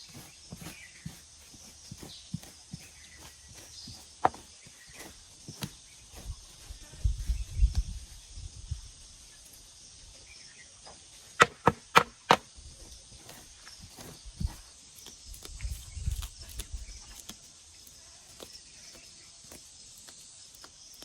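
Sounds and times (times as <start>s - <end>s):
garden tool chopping ground: 0.0s - 8.0s, 11.2s - 21.0s
faint insect hum: 0.0s - 21.0s.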